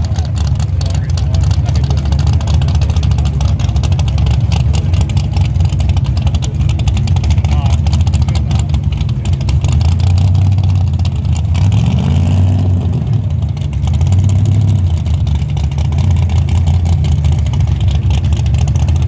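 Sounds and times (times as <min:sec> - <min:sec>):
race car engines idling roughly: 0:00.0 - 0:19.0.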